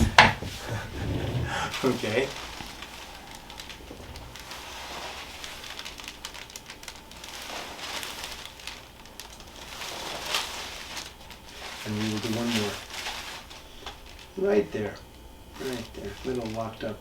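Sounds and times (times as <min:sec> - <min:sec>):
hands and clothing rustling: 0:00.0 - 0:14.8, 0:15.5 - 0:17.0
faint crackles: 0:00.0 - 0:17.0.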